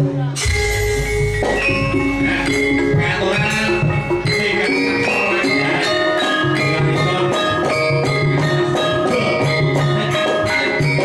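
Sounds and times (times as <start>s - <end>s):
gamelan playing: 0.4s - 11.0s.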